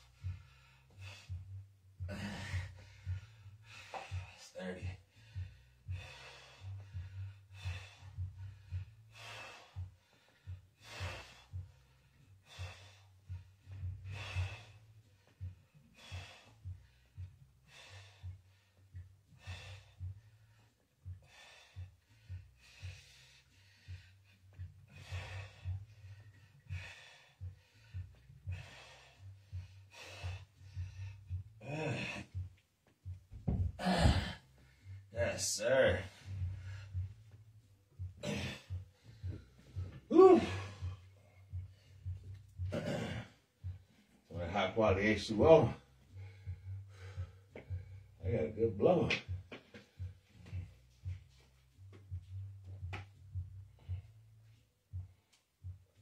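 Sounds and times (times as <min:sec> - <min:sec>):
man breathing hard: 0:00.0 - 0:56.0.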